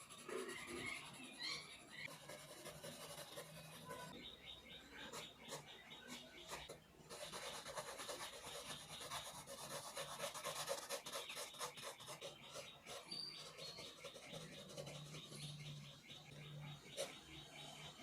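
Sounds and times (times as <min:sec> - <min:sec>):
pencil scratching on paper: 0:00.0 - 0:04.2, 0:05.0 - 0:17.8.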